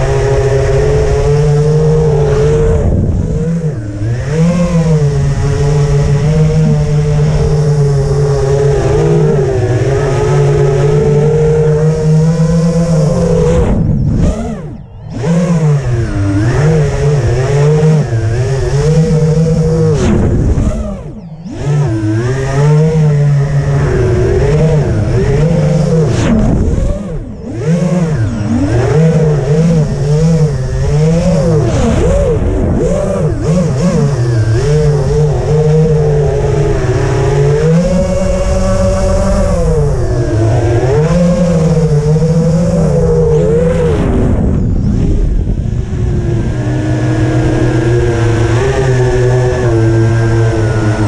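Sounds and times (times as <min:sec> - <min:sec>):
drone motors buzzing: 0:00.0 - 0:51.0.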